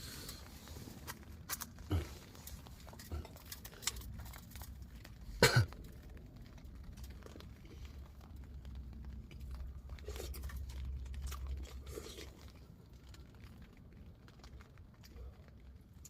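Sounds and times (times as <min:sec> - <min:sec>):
crinkling rustles: 0:00.0 - 0:16.0.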